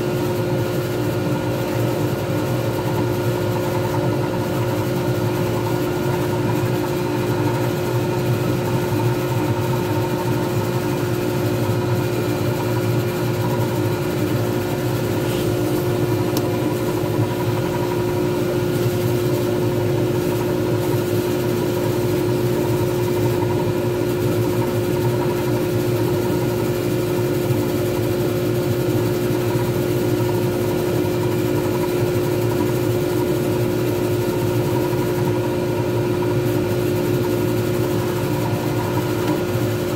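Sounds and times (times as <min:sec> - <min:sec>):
wood lathe motor humming: 0:00.0 - 0:26.8, 0:34.5 - 0:39.9.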